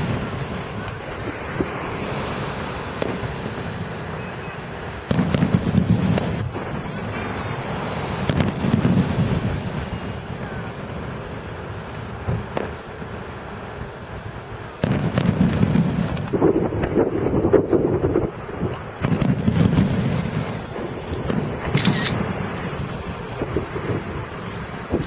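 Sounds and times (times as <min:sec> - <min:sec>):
fireworks shells booming: 0:00.0 - 0:13.3, 0:14.7 - 0:25.0
sharp fireworks pops: 0:00.0 - 0:13.9, 0:14.7 - 0:25.0.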